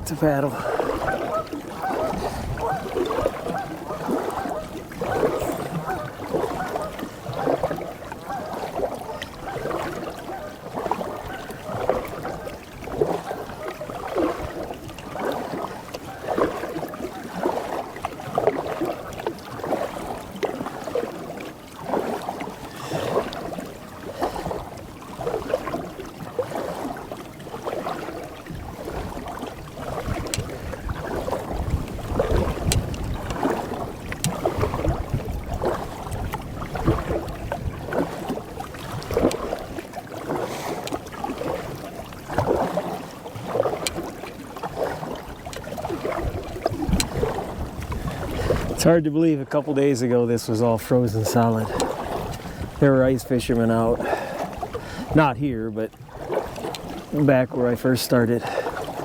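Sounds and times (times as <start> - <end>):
canoe paddle splashing water: 0.0 - 59.0.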